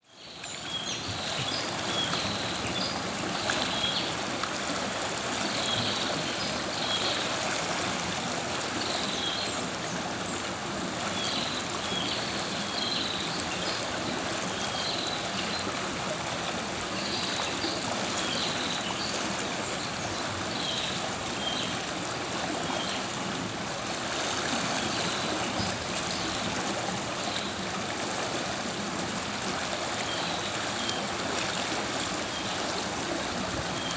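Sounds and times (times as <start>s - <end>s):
river water flowing over rocks: 0.1s - 33.9s.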